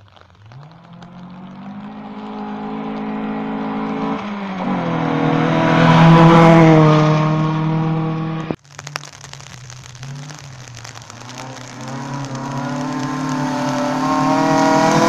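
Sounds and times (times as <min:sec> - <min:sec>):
rally car engine at full throttle: 0:00.6 - 0:08.6, 0:10.2 - 0:15.0.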